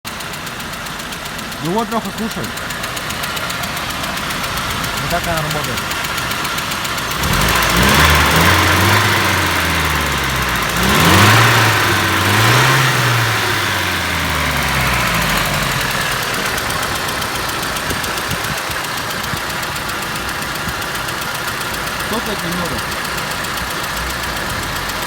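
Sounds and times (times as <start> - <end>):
engine running with a knock: 0.1 - 25.0.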